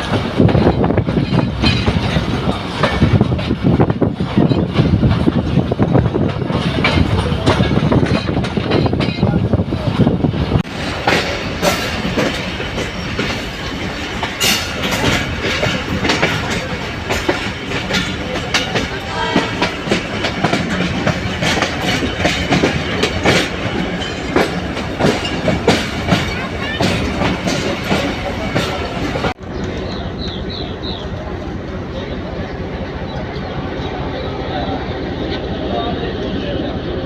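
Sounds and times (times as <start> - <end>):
train wheels clattering on rails: 0.0 - 35.5.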